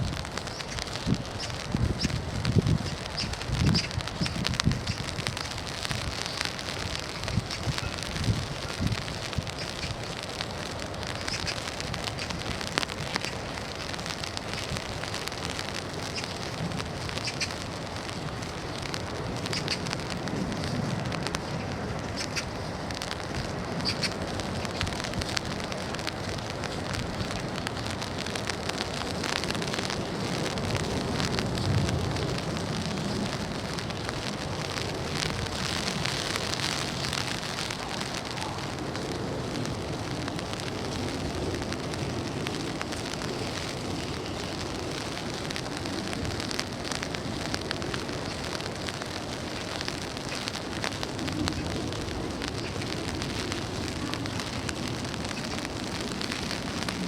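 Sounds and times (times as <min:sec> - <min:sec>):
rain pattering on an umbrella: 0:00.0 - 0:57.0.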